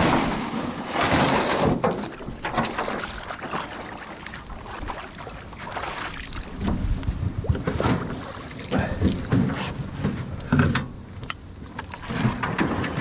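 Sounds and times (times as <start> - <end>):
water sloshing around hull: 0.0 - 13.0.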